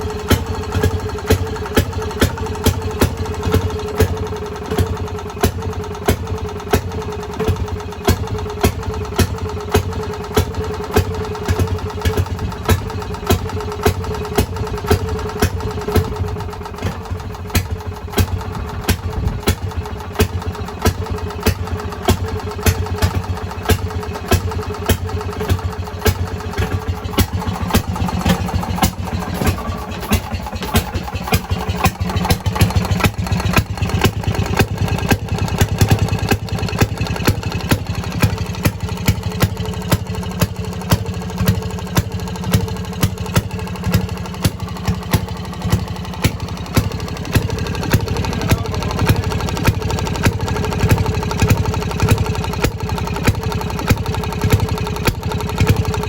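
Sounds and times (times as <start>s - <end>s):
two-stroke engine idling: 0.0s - 56.0s.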